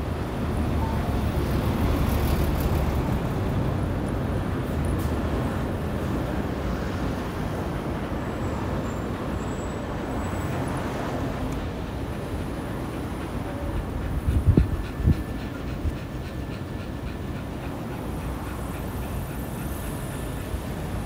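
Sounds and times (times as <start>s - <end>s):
low rumble of vehicles: 0.0s - 21.0s.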